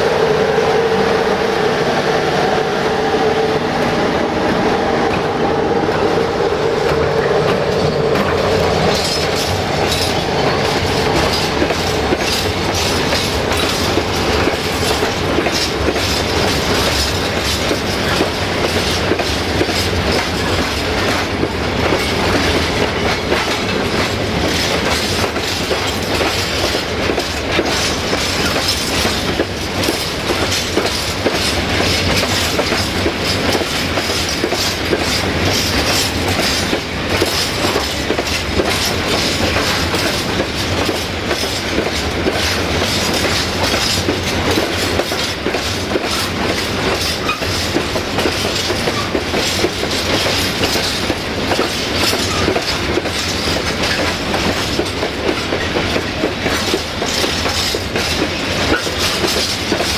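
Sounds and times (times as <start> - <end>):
freight train rolling past: 0.0 - 59.9
steel wheels on rails: 0.0 - 59.9.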